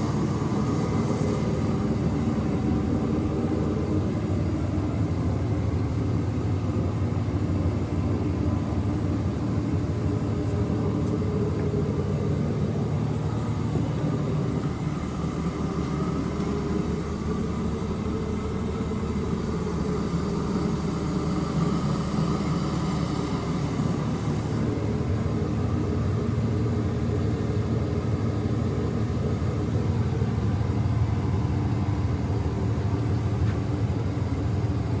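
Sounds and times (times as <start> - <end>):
diesel engine idling: 0.0 - 35.0
turbo whine: 0.0 - 35.0.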